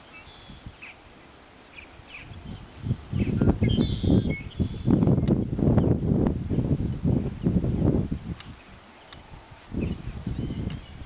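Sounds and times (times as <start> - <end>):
wind buffeting microphone: 0.0 - 0.9, 1.8 - 11.0
small birds chirping: 0.0 - 11.0.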